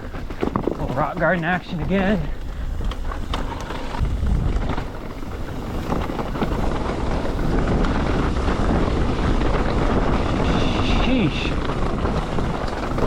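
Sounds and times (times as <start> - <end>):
bike clicks and knocks: 0.0 - 10.5, 11.3 - 13.0
bike tyres rolling over dirt: 0.0 - 13.0
wind on the microphone: 0.0 - 13.0.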